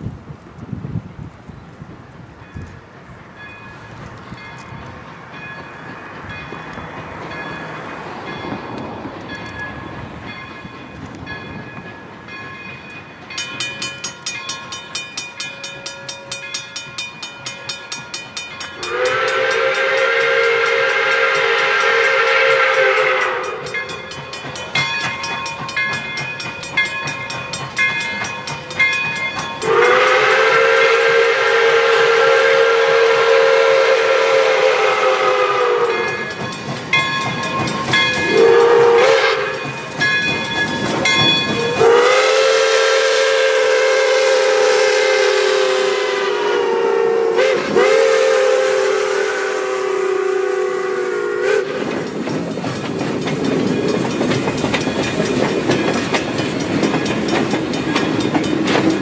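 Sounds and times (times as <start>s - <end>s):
steam locomotive chime whistle: 2.4s - 59.0s.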